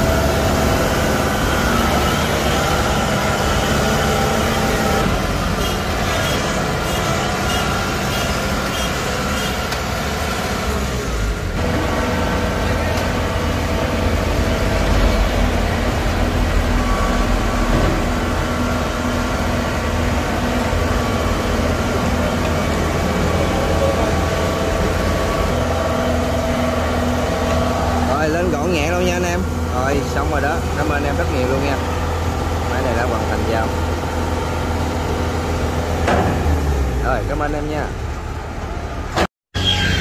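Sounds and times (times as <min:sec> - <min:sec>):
diesel engine running under load: 0:00.0 - 0:40.0.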